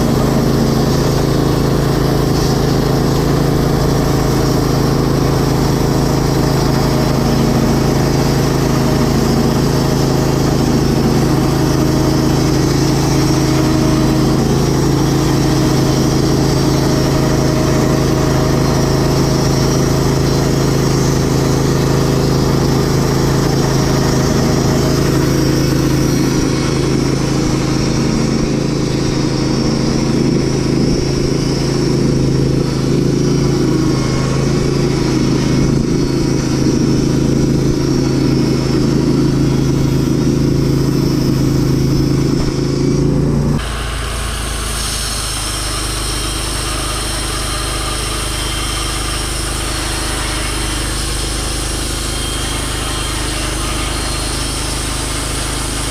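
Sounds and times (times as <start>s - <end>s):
sawmill cutting a log: 0.0s - 55.9s.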